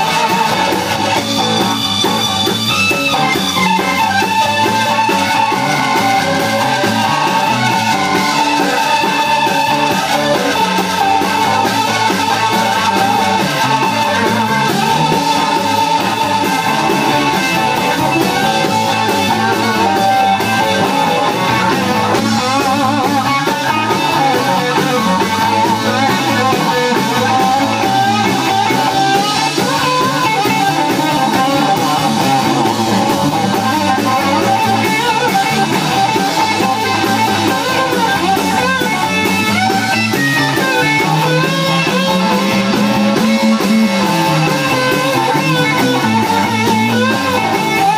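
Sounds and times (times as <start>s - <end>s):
drum kit: 0.0s - 47.9s
electric bass: 0.0s - 47.9s
electric guitar lead: 0.0s - 47.9s.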